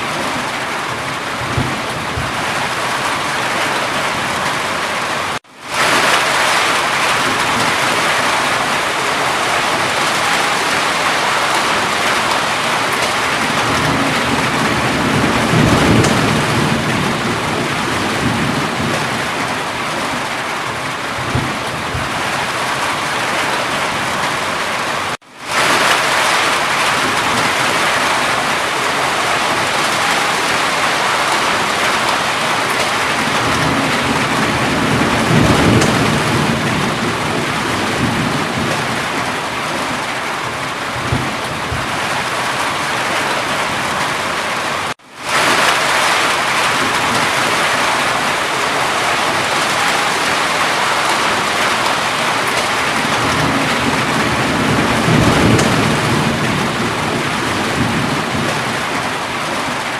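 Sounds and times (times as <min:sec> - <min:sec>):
rolling thunder rumbles: 0:00.0 - 0:24.9, 0:25.5 - 0:59.9
heavy rain: 0:00.0 - 0:59.9.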